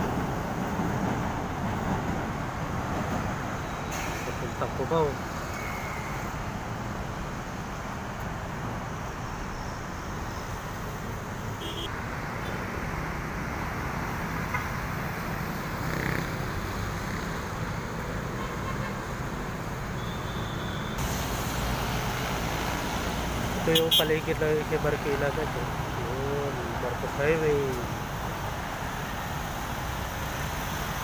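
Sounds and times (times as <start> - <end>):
highway traffic noise: 0.0 - 31.0.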